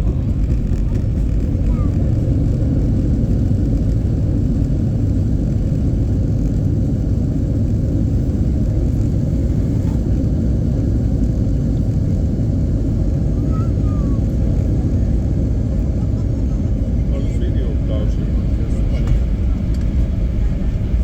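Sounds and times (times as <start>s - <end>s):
airliner engine and airframe rumble: 0.0s - 21.0s.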